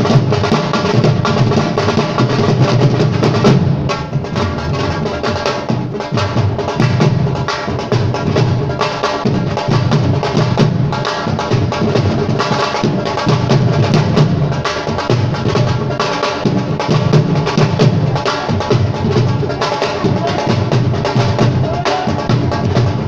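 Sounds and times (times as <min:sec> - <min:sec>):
drums playing fast rhythm: 0:00.0 - 0:23.0.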